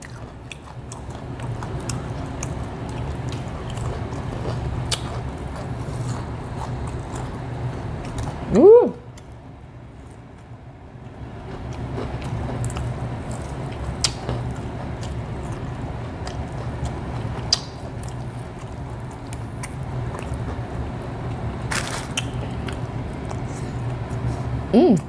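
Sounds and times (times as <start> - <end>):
person chewing food: 0.0 - 10.5, 11.1 - 25.0.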